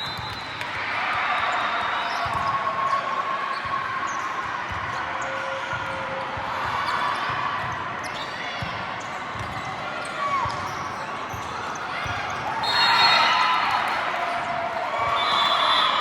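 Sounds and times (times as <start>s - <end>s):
crowd noise: 0.0s - 16.0s.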